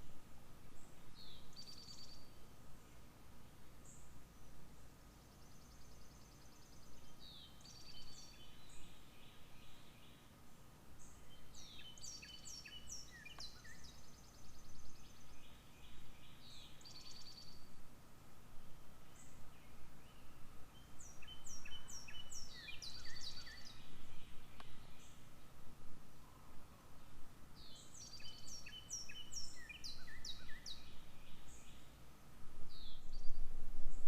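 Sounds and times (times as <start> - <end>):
faint low rumble: 0.0 - 34.0
songbirds chirping and trilling: 0.0 - 34.0.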